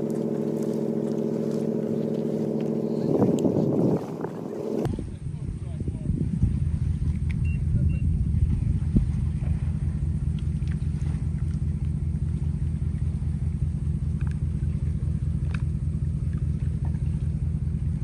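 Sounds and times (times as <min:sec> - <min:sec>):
engine pulsing rumble: 0:00.0 - 0:18.0.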